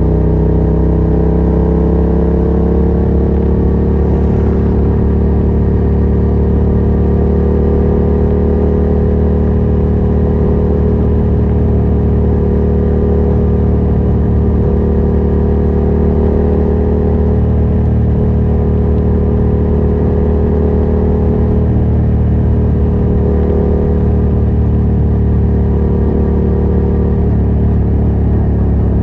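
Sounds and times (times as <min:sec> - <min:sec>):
motorcycle engine running loud: 0:00.0 - 0:29.0.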